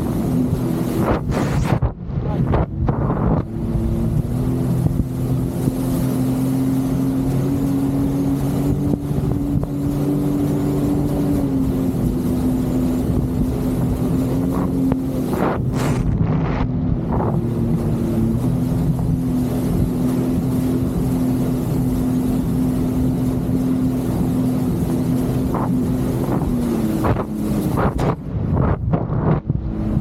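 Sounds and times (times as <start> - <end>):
jet ski engine running: 0.0 - 30.0
wind and water rushing: 0.0 - 30.0.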